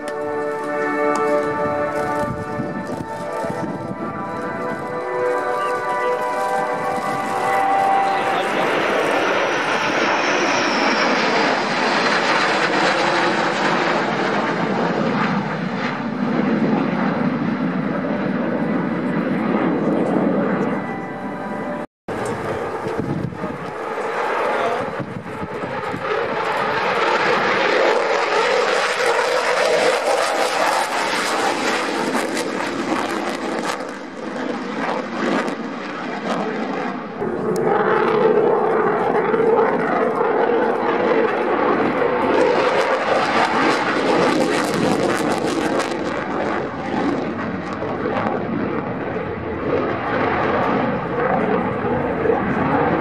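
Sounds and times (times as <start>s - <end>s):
jet roar with crackle: 0.0s - 20.8s, 21.6s - 53.0s.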